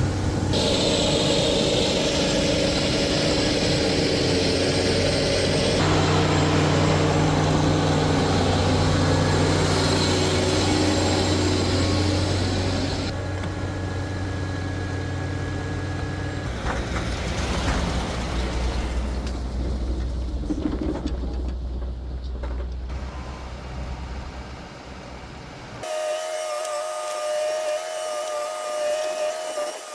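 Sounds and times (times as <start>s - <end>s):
heavy vehicle engine running: 0.0s - 25.8s.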